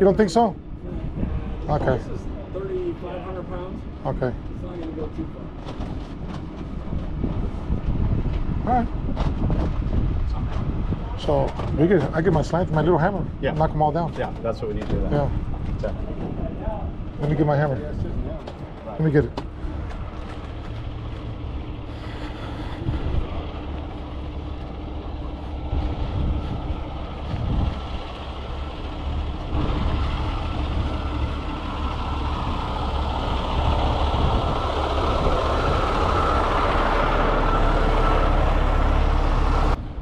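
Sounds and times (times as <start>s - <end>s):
heavy vehicle engine rumbling: 0.0s - 40.0s.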